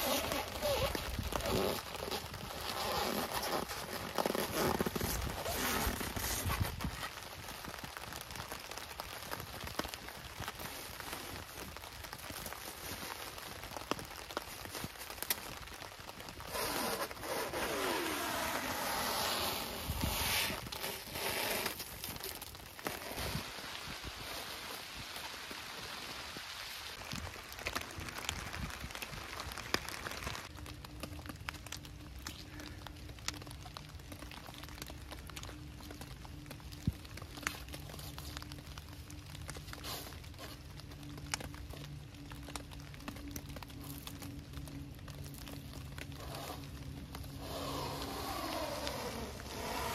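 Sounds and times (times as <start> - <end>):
rain on plastic sheet: 0.0 - 49.9.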